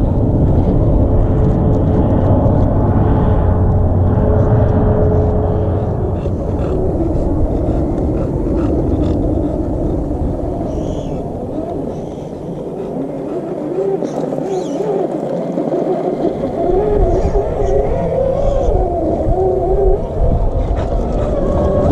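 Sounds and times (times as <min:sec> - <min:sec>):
low rumble: 0:00.0 - 0:14.6, 0:16.1 - 0:21.9.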